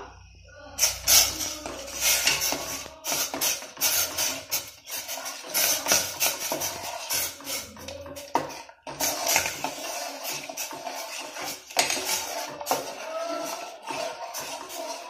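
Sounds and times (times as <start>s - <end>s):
metal spoon scraping steel pot: 0.8s - 15.0s.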